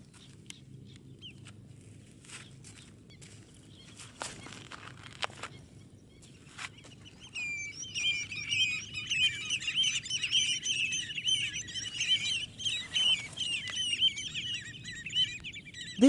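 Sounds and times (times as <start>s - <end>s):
flock of birds chirping: 0.0s - 16.0s.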